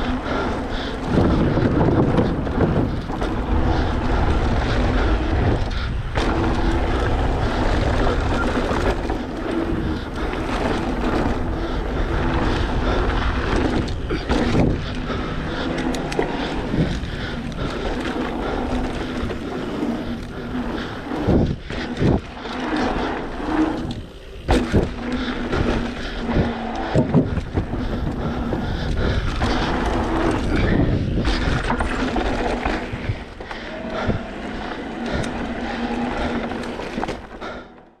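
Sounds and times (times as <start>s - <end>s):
wind on microphone: 0.0s - 15.7s, 16.4s - 34.4s
bike frame and chain rattle: 0.0s - 37.8s
tyres rolling on dirt: 0.0s - 37.9s.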